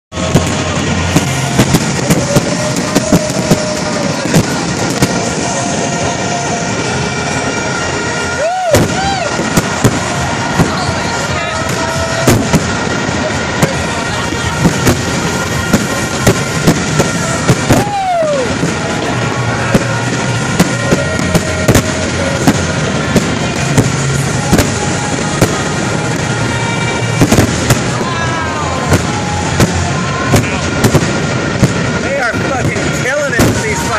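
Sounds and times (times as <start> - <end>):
fireworks bursting: 0.1 - 33.9
fireworks crackling: 0.1 - 33.9.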